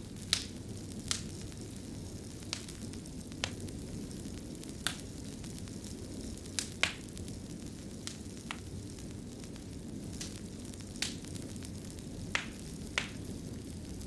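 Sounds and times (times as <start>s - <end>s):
fire crackles and pops: 0.0s - 14.0s.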